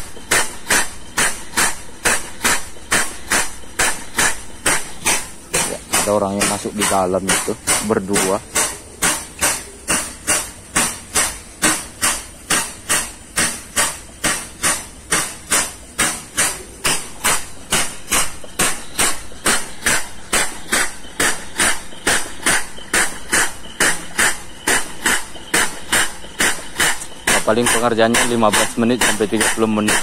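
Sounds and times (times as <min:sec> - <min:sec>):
air pump hiss and clack: 0:00.0 - 0:30.0.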